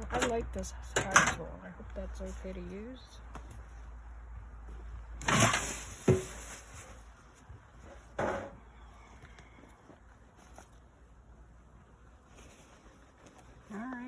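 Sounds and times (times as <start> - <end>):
beekeeping gear handling noise: 0.0 - 14.0.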